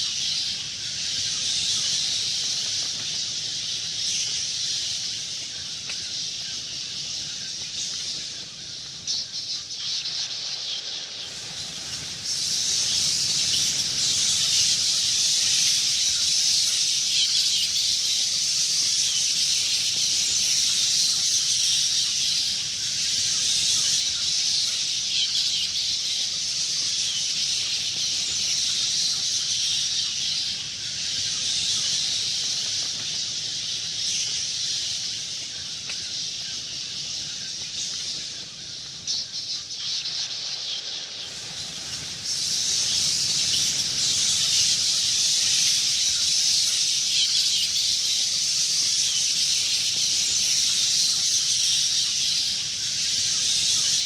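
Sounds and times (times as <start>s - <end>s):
bats chittering: 0.0s - 54.0s.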